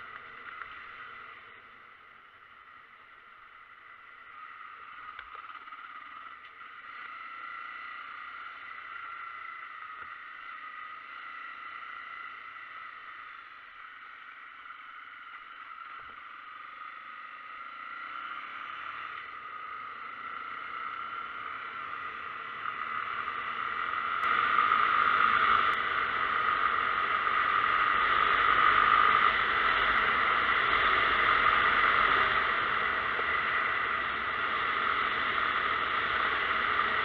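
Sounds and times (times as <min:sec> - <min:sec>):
moving vehicle: 0:00.0 - 0:37.0.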